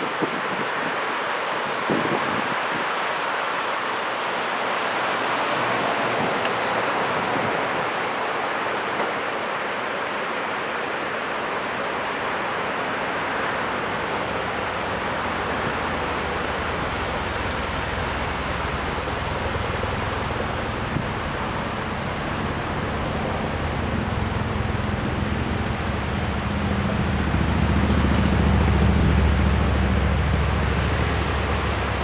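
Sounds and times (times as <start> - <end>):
ocean surf breaking on beach: 0.0 - 32.0.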